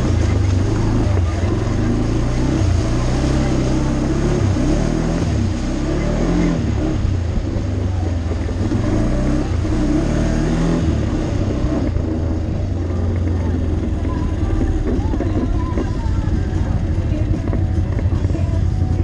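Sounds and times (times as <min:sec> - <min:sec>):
quad bike engine revving: 0:00.0 - 0:19.0.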